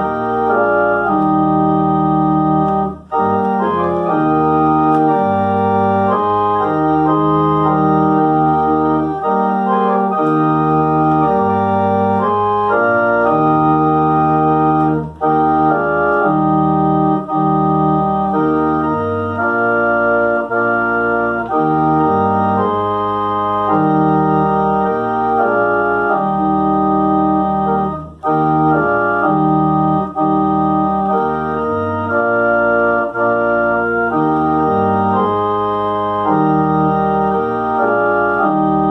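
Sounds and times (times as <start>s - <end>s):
organ playing slow chords: 0.0s - 38.9s.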